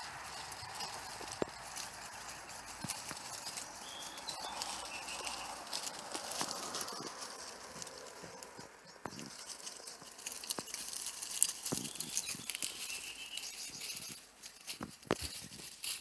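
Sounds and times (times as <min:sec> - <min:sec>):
animals rustling dry leaves: 0:00.0 - 0:16.0.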